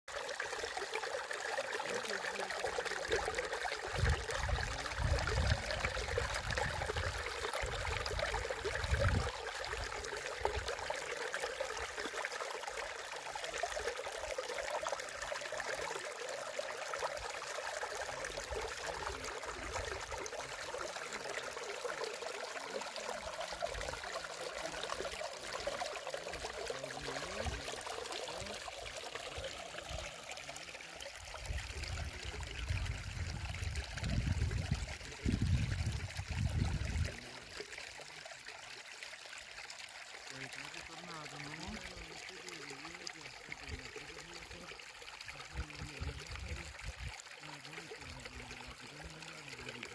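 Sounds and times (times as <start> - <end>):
water trickling: 0.1 - 49.9.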